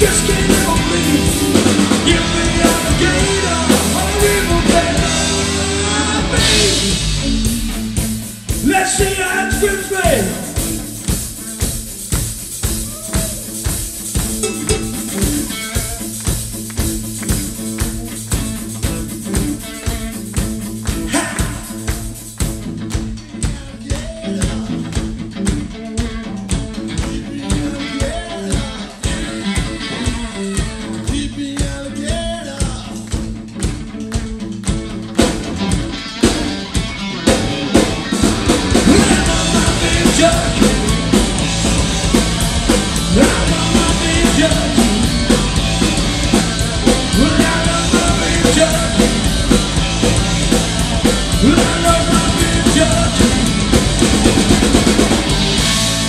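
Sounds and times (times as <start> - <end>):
drums: 0.0 - 56.0
electric guitar: 0.0 - 56.0.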